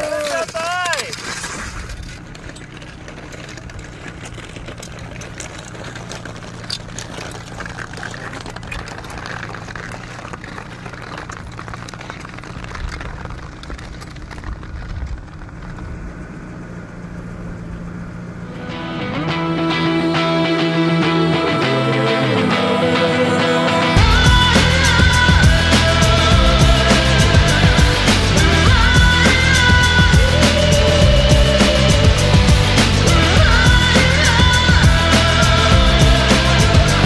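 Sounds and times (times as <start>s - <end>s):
low motor hum: 1.1s - 37.0s.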